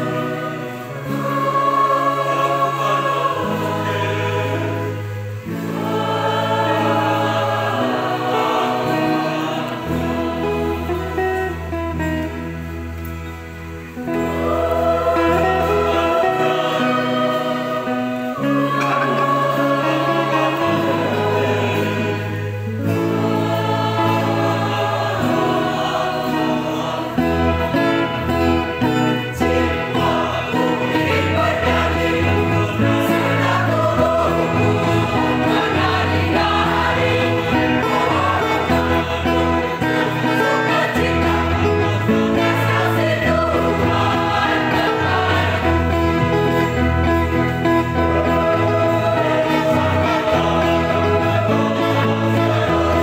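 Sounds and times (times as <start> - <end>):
choir singing in parts: 0.0 - 53.0.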